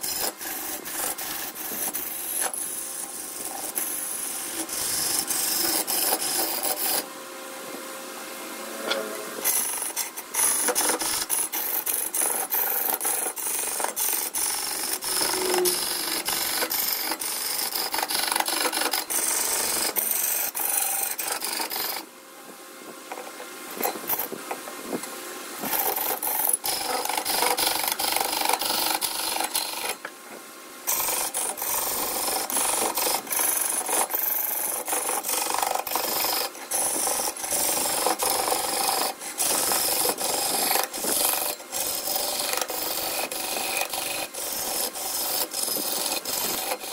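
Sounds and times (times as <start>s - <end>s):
lathe tool rasping wood: 0.0s - 7.1s, 9.4s - 22.1s, 25.6s - 30.0s, 30.9s - 46.9s.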